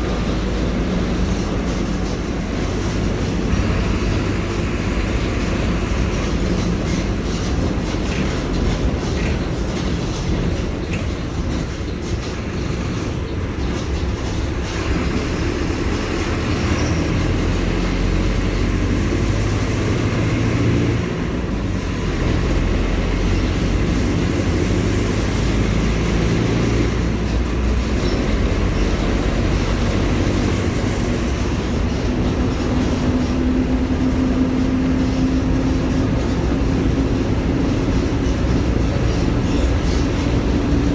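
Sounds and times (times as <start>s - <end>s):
diesel bus engine droning: 0.0s - 40.9s.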